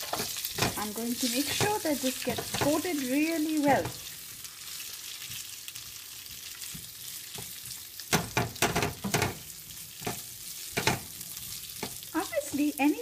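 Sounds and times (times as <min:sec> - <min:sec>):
spatula scraping a pan: 0:00.0 - 0:12.6
potatoes sizzling in oil: 0:00.0 - 0:13.0.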